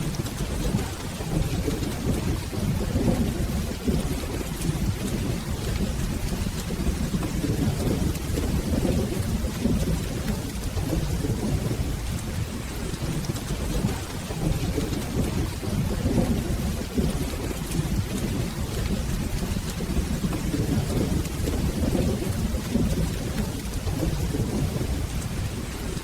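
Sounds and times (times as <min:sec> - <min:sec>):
low rolling thunder rumble: 0:00.0 - 0:26.0
steady rain: 0:00.0 - 0:26.0.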